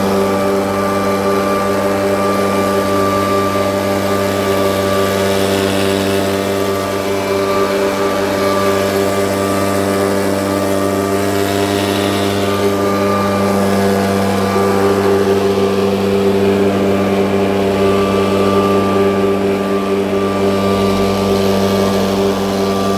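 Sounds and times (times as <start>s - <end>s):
petrol blower engine running: 0.0s - 22.9s.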